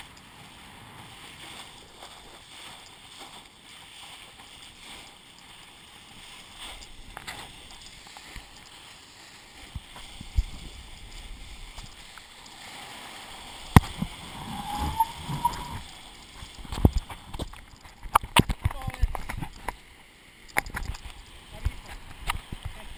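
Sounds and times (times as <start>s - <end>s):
muffled water sloshing and gurgling: 0.0s - 22.9s.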